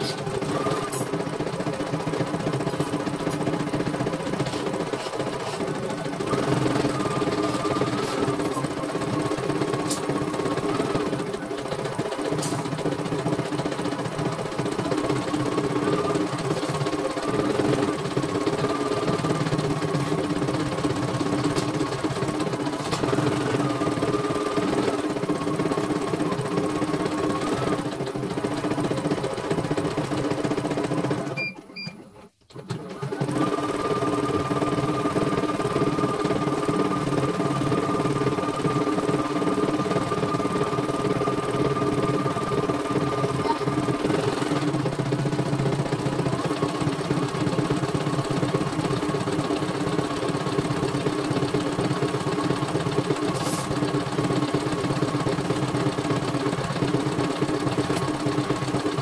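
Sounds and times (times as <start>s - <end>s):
embroidery machine stitching: 0.0s - 59.0s.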